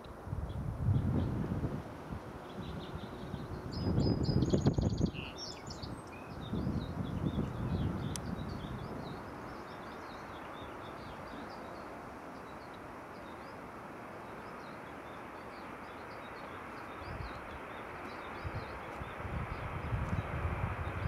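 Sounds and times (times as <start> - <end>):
steady rushing noise: 0.0 - 21.0
small birds chirping: 2.4 - 21.0.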